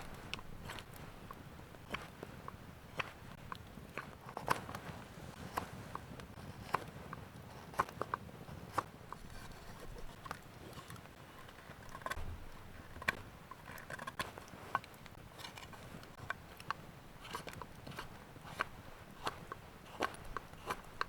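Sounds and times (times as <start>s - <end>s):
knife cutting wood: 0.0s - 21.0s.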